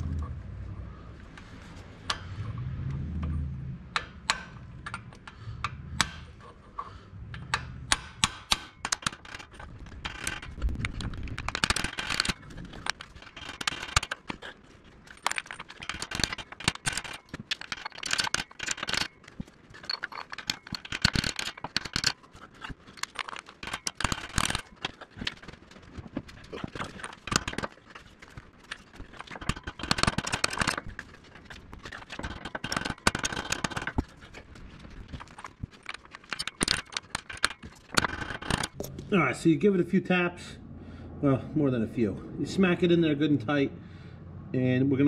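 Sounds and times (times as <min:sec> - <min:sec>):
metal scraping and clinking: 0:01.3 - 0:39.2.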